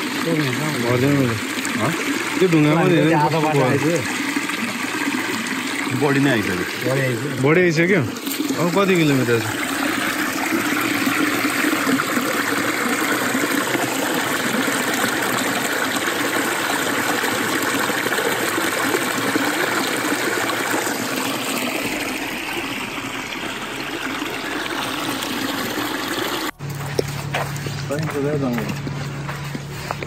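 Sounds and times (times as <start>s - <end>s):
creek water running over rock: 0.0s - 28.8s.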